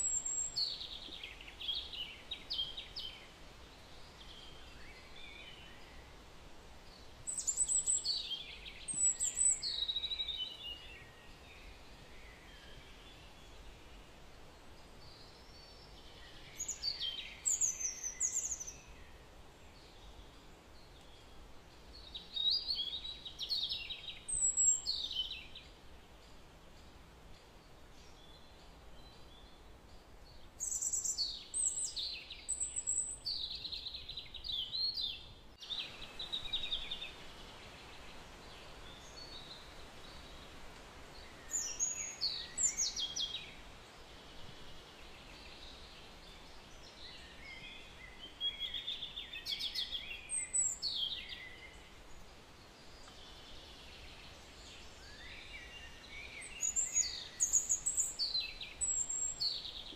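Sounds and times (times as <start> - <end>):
birds chirping and twittering: 0.0 - 59.9
faint steady hiss: 0.0 - 59.9.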